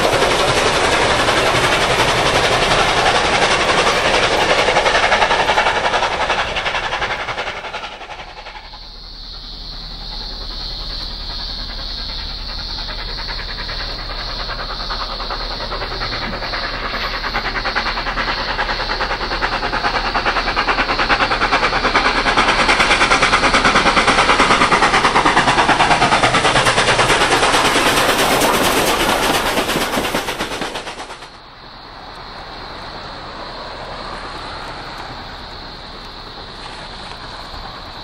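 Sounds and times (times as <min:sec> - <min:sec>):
steam locomotive chuffing: 0:00.0 - 0:38.0.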